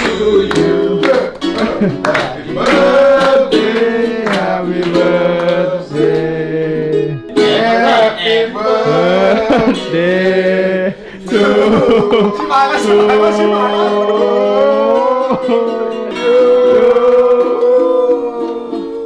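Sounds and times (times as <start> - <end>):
person singing: 0.0 - 19.0
strummed string instrument: 0.0 - 19.0.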